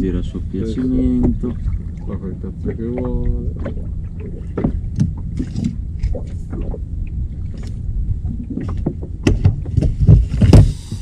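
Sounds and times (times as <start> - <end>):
water slapping against hull: 0.0 - 11.0
wind rumble on microphone: 0.0 - 11.0.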